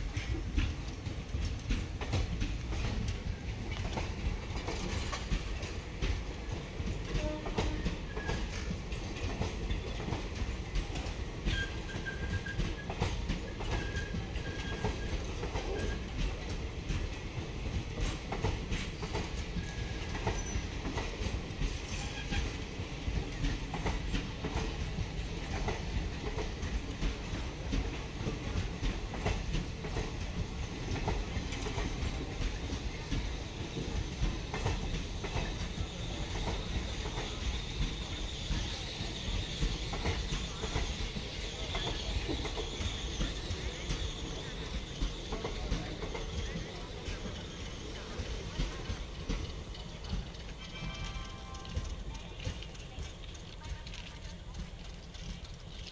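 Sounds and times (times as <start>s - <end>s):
train wheels clattering over rail joints: 0.0s - 55.9s.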